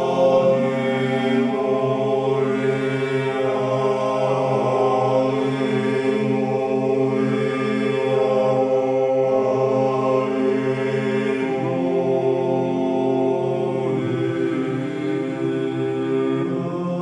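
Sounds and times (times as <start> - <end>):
voices chanting long notes: 0.0 - 17.0.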